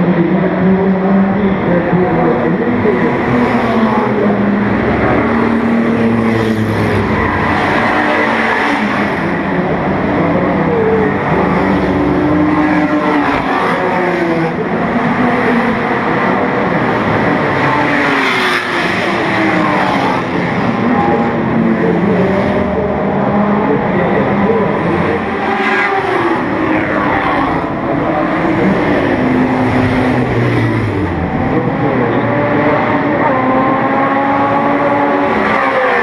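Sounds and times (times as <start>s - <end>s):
racing car engines revving past: 0.0s - 36.0s.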